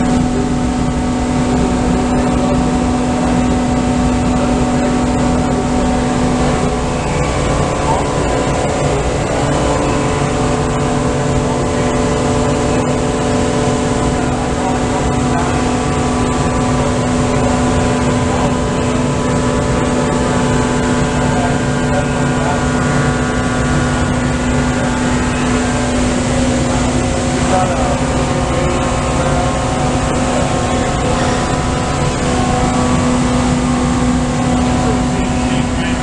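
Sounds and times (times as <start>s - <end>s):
surface grinder humming: 0.0s - 36.0s.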